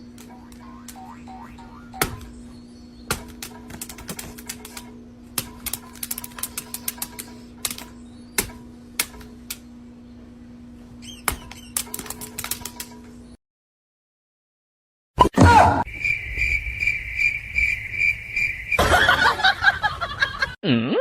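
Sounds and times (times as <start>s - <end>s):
steady hum: 0.0s - 13.4s, 15.5s - 20.6s.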